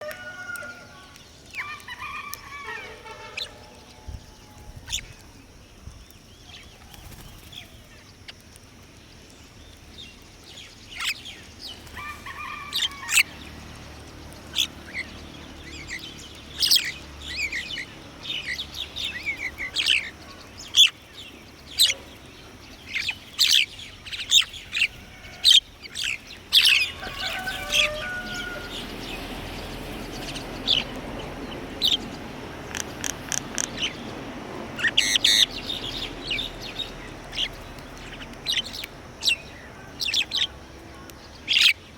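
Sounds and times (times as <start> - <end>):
lower bird calls: 0.0 - 8.4, 10.5 - 41.9
birds chirping: 0.1 - 41.9.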